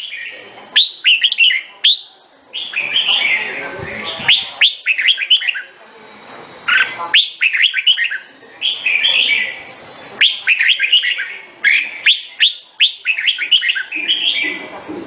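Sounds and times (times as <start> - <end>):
bird singing whistled notes: 0.0 - 5.7, 6.7 - 9.6, 10.2 - 14.6.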